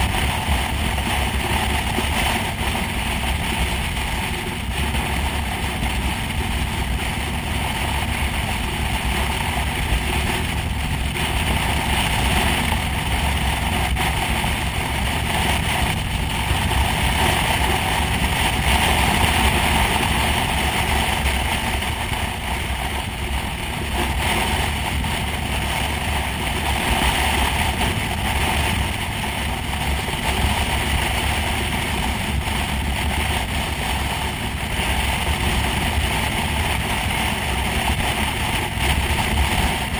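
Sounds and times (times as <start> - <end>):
motorcycle engine and road noise: 0.0 - 39.9
wind rush: 0.0 - 39.9.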